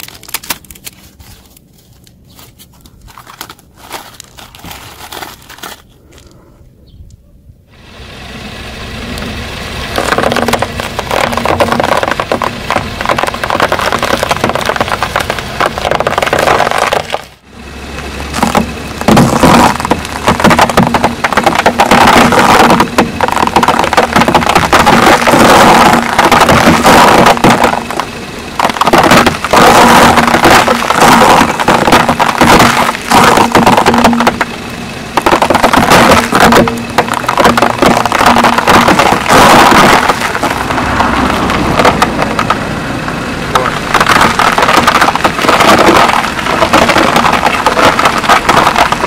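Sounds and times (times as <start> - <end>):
sugar cubes crunching under tyre: 0.0 - 6.4, 9.8 - 17.4, 18.2 - 49.0.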